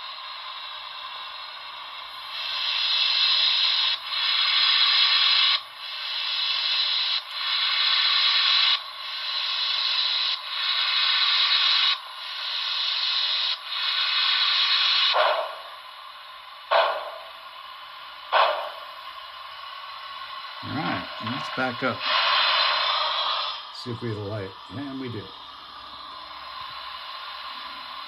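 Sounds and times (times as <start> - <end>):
model steam locomotive chuffs: 0.0 - 28.0.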